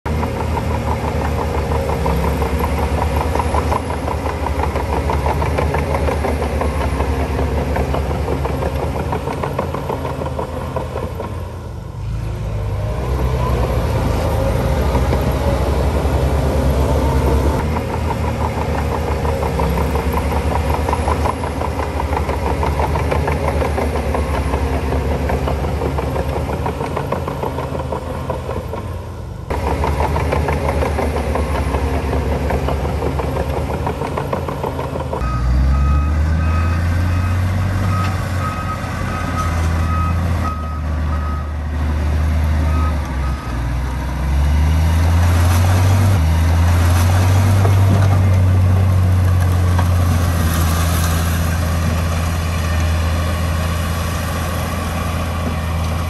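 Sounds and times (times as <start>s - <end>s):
heavy diesel engine rumbling: 0.0s - 56.0s.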